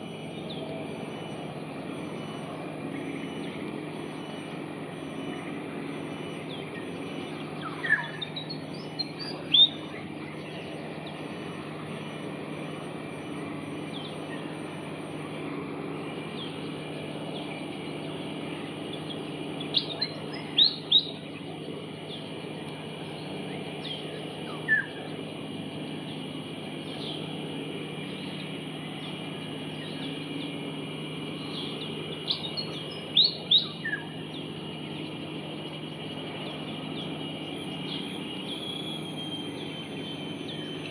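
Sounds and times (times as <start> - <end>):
soft bird chirps: 0.0 - 15.5, 16.1 - 25.2, 31.3 - 40.9
steady low hum: 0.0 - 40.9.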